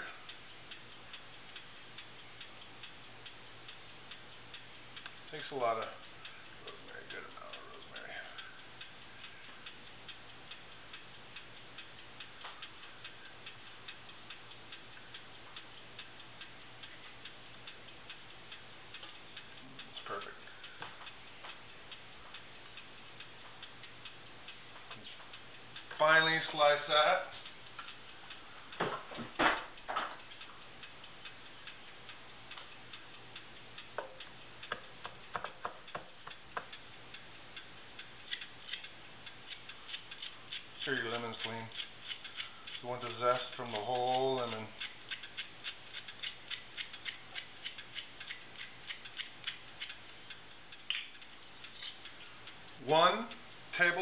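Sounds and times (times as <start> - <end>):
clock ticking: 0.0 - 54.0.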